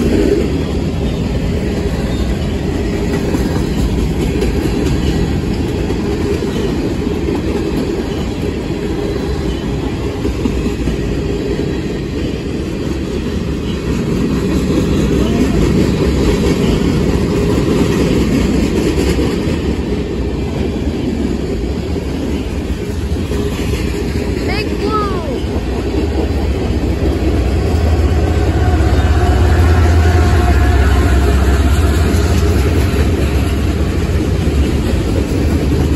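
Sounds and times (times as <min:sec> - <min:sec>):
freight car wheels rumbling on rails: 0:00.0 - 0:35.9.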